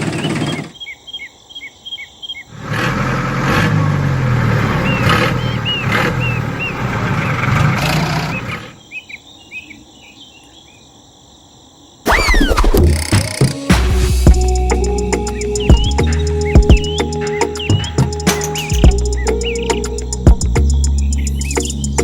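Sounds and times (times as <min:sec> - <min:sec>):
birds chirping: 0:00.0 - 0:11.0, 0:12.1 - 0:22.0.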